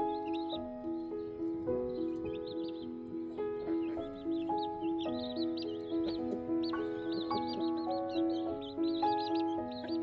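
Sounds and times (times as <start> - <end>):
gentle music of held notes: 0.0 - 10.0
small birds chirping: 0.0 - 10.0.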